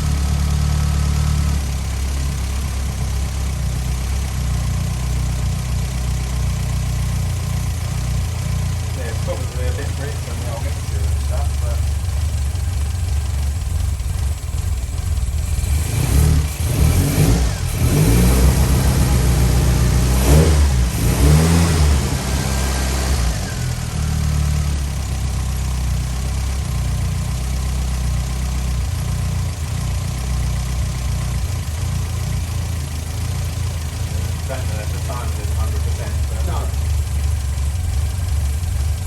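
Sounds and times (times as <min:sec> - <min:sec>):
car engine revving and idling: 0:00.0 - 0:39.0.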